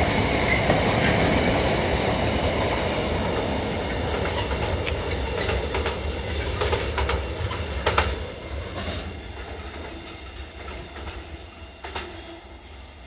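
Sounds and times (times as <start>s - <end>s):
train wheels clicking over rail joints: 0.0s - 12.2s
train low rumble: 0.0s - 13.0s.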